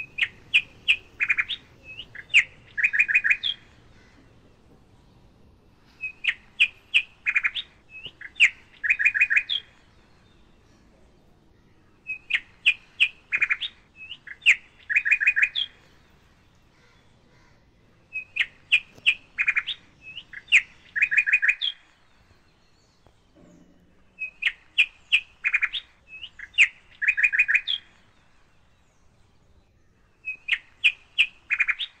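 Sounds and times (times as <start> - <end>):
bird chirping and trilling: 0.0 - 4.2, 5.9 - 32.0.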